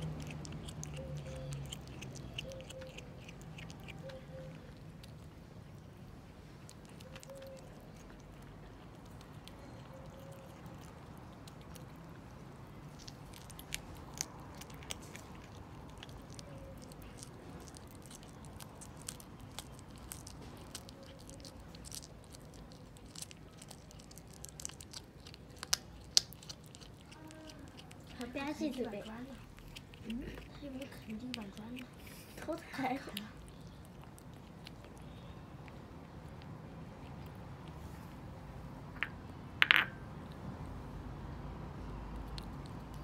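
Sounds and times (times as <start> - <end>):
kitten chewing meat: 0.0 - 43.0.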